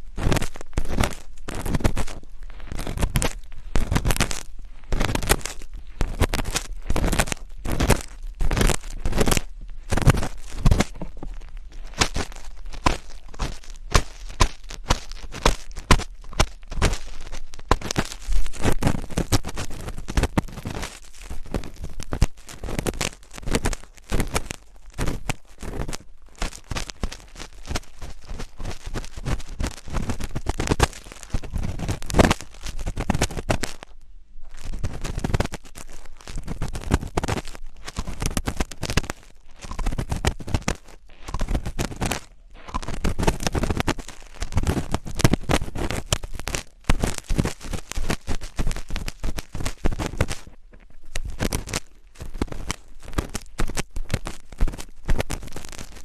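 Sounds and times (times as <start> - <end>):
close scratching and crackling: 0.0 - 56.0.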